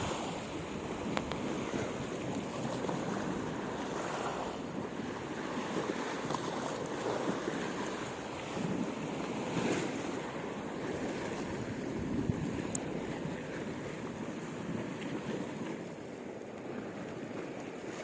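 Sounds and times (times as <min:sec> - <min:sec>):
wind buffeting microphone: 0:00.0 - 0:16.1
waves on the shore: 0:00.0 - 0:18.0.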